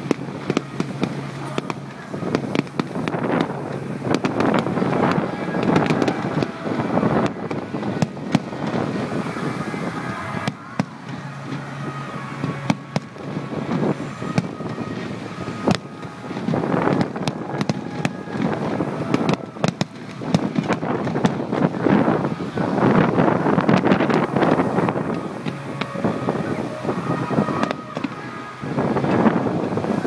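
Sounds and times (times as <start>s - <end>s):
fireworks bangs: 0.0s - 30.0s
fireworks crackling: 0.0s - 30.0s.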